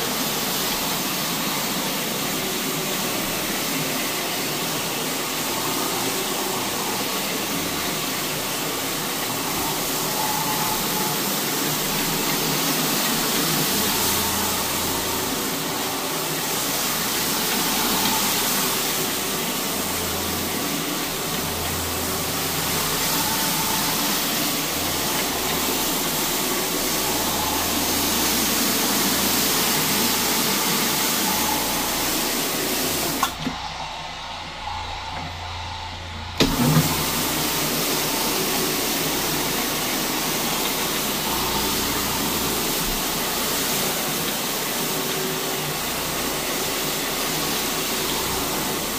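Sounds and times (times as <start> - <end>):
floor machine scrubbing carpet: 0.0 - 48.9.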